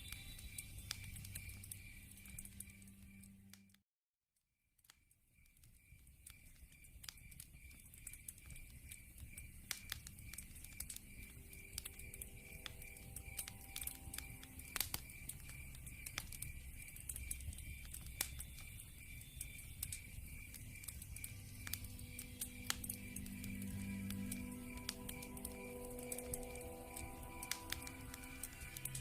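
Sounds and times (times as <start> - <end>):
cricket trilling: 0.0 - 3.4, 5.4 - 29.0
log fire crackling: 0.0 - 3.7, 5.4 - 29.0.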